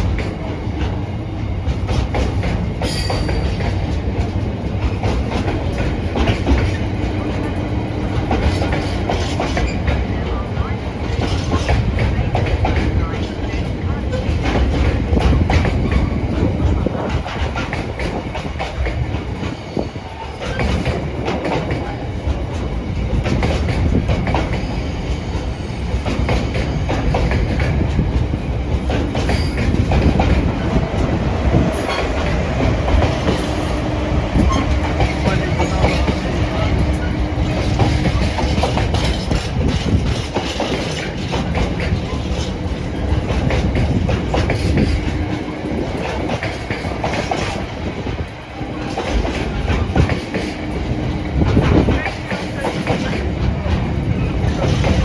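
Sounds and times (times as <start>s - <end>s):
freight train wagons rolling past: 0.0s - 55.0s
wheels clattering over rail joints: 0.0s - 55.0s.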